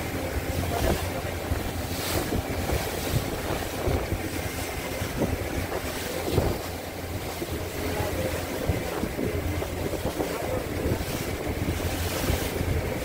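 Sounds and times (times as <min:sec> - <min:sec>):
motorboat engine running: 0:00.0 - 0:13.0
water splashing against hull: 0:00.0 - 0:13.0
wind buffeting microphone: 0:00.0 - 0:13.0.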